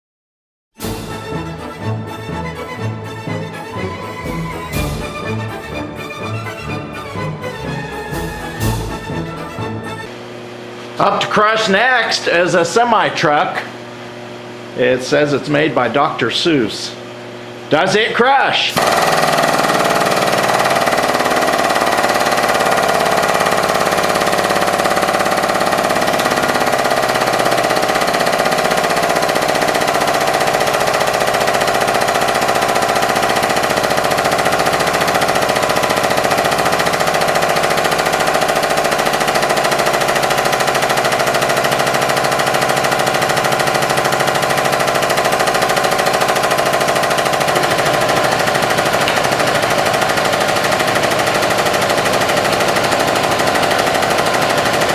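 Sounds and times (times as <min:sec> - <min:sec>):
hydraulic pump motor rattling: 0:00.8 - 0:10.1, 0:18.7 - 0:54.9.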